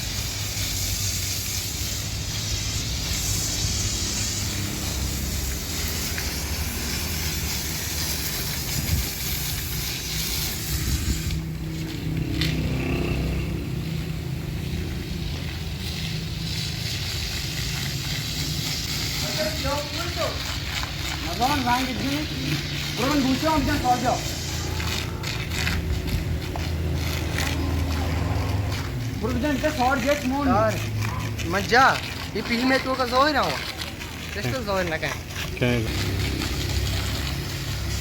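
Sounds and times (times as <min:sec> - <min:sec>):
pressure washer spraying: 0:00.0 - 0:38.0.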